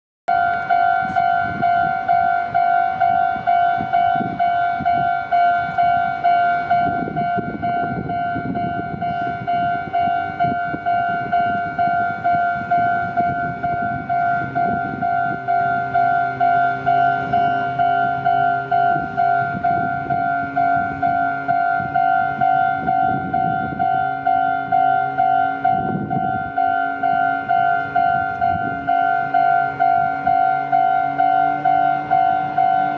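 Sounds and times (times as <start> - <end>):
level crossing bell ringing: 0.3 - 32.9
train passing with rumble: 0.3 - 32.9.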